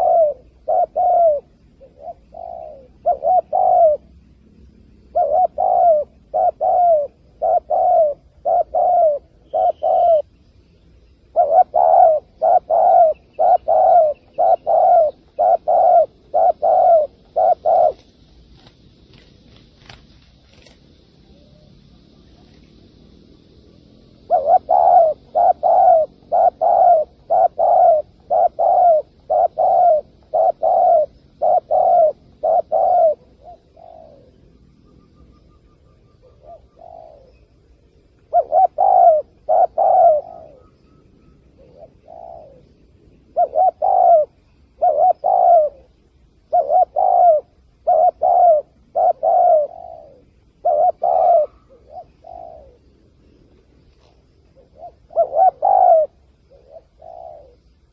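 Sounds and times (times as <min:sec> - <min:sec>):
dove cooing: 0:00.0 - 0:10.4, 0:11.2 - 0:22.7, 0:23.5 - 0:57.9.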